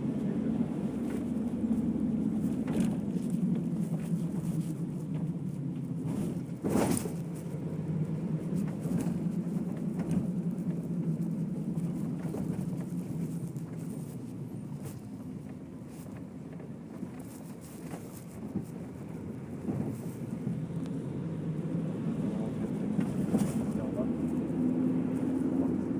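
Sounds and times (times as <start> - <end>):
moving vehicle rumble: 0.0 - 25.9.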